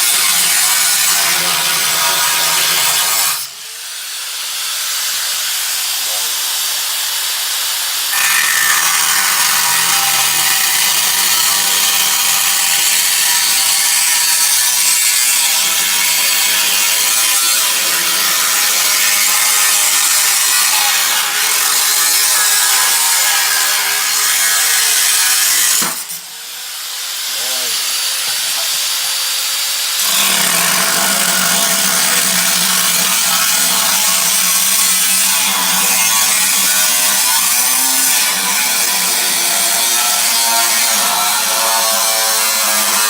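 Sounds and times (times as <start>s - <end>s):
power tool cutting metal: 0.0s - 43.0s.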